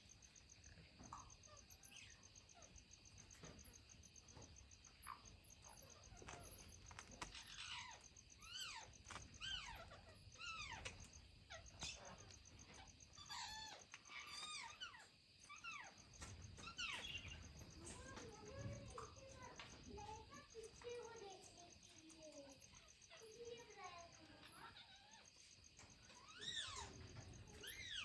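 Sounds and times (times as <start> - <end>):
faint insect chirping: 0.0 - 28.0.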